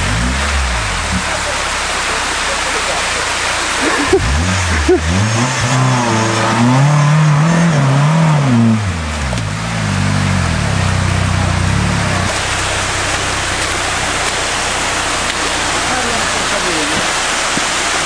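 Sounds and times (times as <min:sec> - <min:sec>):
off-road vehicle engine revving: 0:00.0 - 0:18.0
rushing creek water: 0:00.0 - 0:18.0.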